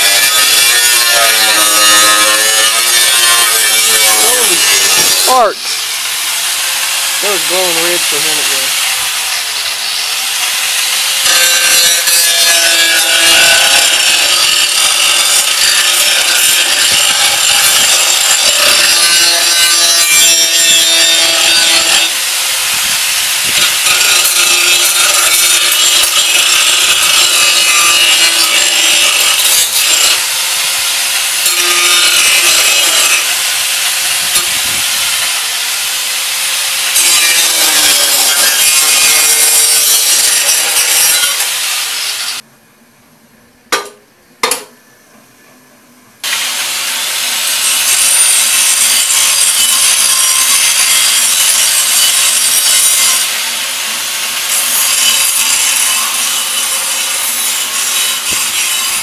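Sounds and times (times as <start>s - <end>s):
angle grinder cutting steel: 0.0s - 42.4s, 46.2s - 59.0s.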